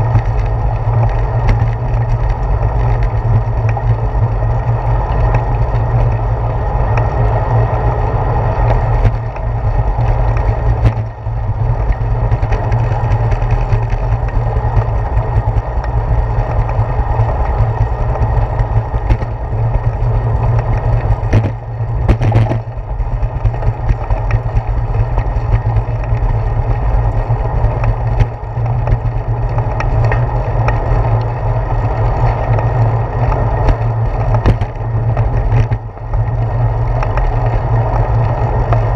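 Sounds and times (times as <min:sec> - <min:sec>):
bicycle knocking over bumps: 0:00.0 - 0:06.2, 0:08.4 - 0:38.9
bicycle rolling on concrete: 0:00.0 - 0:38.9.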